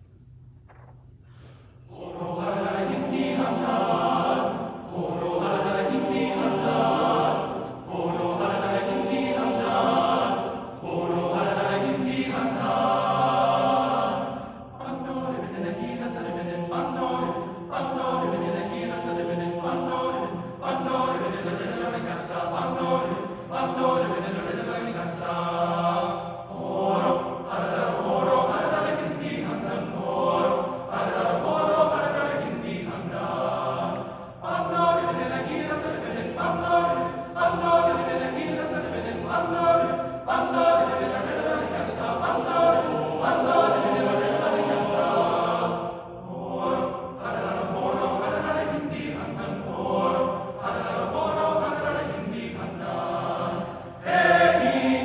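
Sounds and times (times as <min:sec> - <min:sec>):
men's chorus singing: 0:01.9 - 0:55.0.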